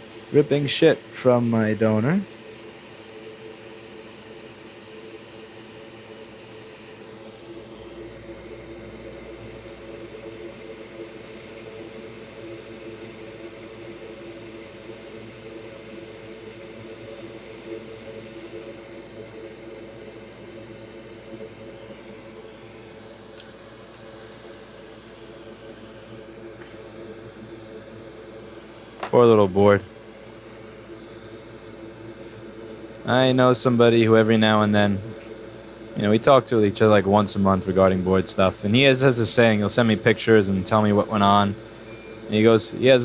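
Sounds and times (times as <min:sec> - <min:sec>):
electric fan whirring: 0:00.0 - 0:43.0.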